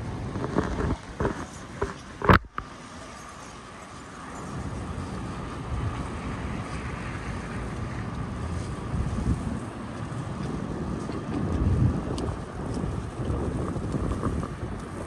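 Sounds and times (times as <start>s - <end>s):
wind buffeting microphone: 0.0s - 2.8s, 3.5s - 15.0s
city street noise: 0.0s - 15.0s.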